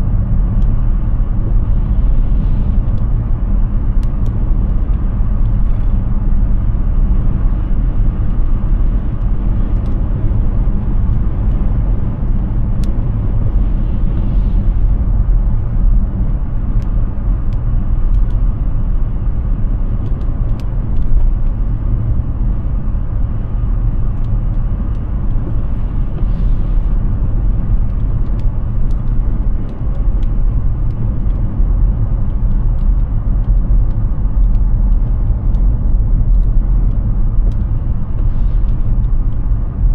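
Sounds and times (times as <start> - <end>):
tyre and wind road noise: 0.0 - 39.9.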